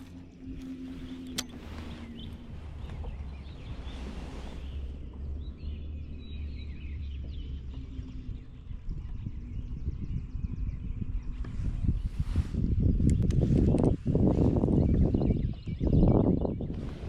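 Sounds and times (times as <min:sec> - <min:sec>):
low outdoor rumble: 0:00.0 - 0:17.0
small birds chirping: 0:00.0 - 0:17.0.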